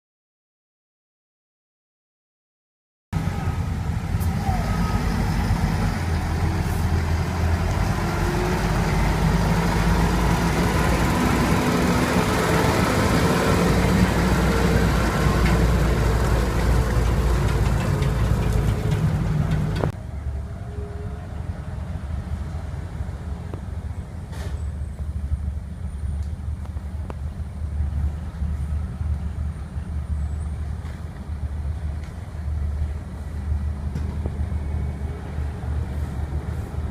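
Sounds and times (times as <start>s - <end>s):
truck diesel engine rumbling: 3.2s - 36.9s.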